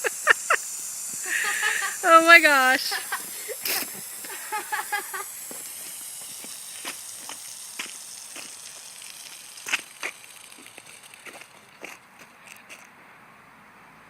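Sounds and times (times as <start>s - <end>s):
foam eruption hissing: 0.0s - 12.0s.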